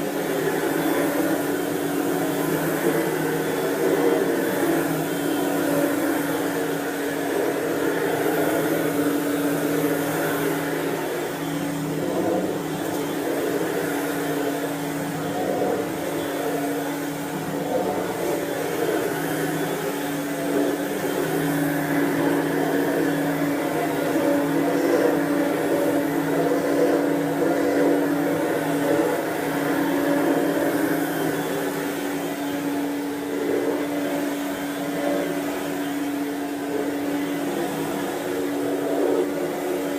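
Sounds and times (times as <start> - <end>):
stick vacuum running: 0.0 - 39.9.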